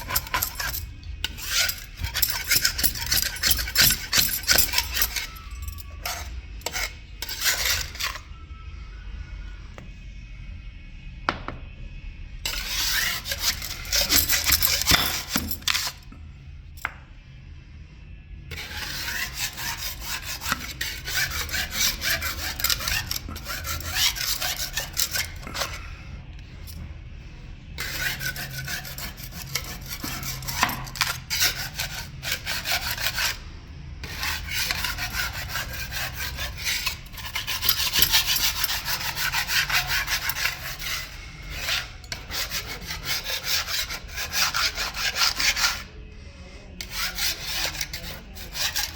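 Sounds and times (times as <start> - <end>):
hand tool scraping marble: 0.0 - 8.4, 12.5 - 16.1, 18.5 - 26.1, 27.7 - 33.4, 34.0 - 46.0, 46.7 - 48.9.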